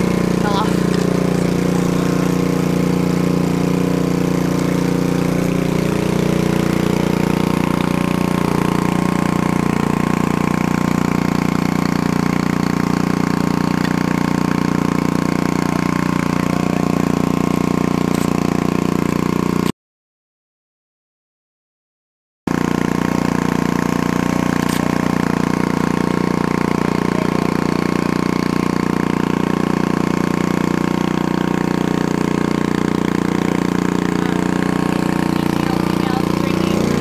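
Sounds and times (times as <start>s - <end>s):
engine idling: 0.0s - 19.7s, 22.5s - 37.0s.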